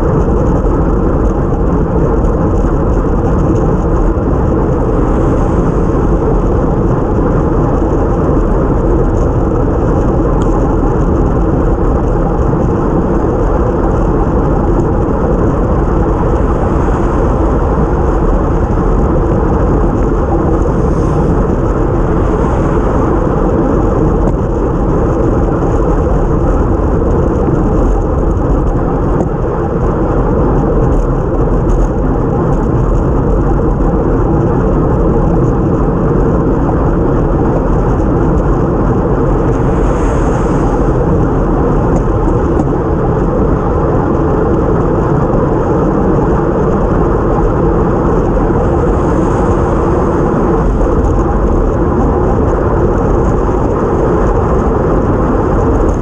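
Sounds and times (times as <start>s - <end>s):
tyre noise on wet road: 0.0s - 56.0s
wind buffeting microphone: 0.0s - 56.0s.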